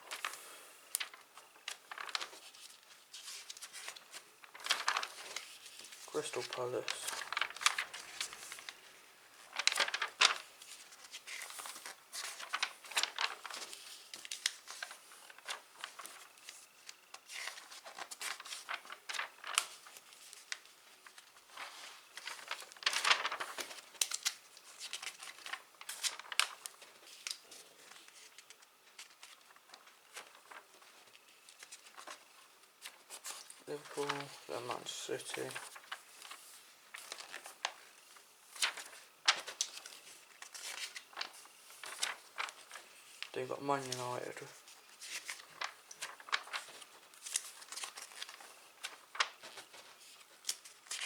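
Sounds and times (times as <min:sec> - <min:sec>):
page flips: 0:00.1 - 0:51.0
paper pages rustling: 0:00.1 - 0:51.0.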